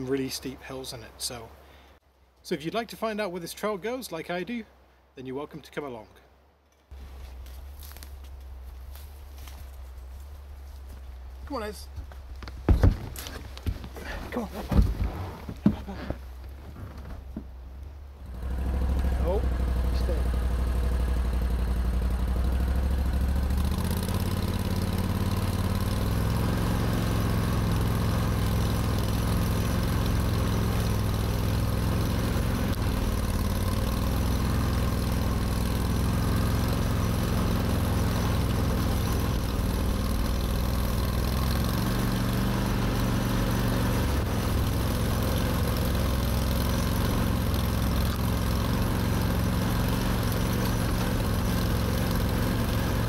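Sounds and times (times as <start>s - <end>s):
vehicle engine running: 6.9s - 53.0s.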